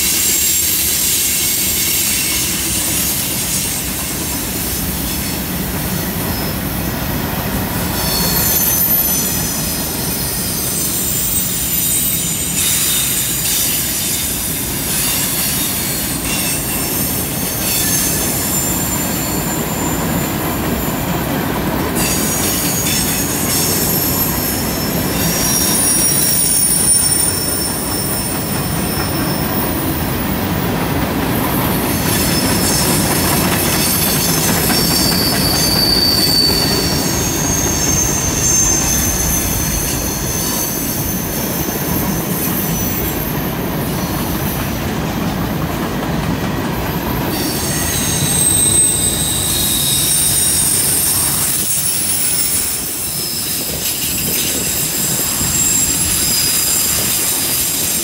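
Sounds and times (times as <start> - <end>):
high thin wheel squeal: 0.0 - 6.9, 7.8 - 44.8, 46.9 - 58.0
train wheels rumbling on rail: 0.0 - 58.0.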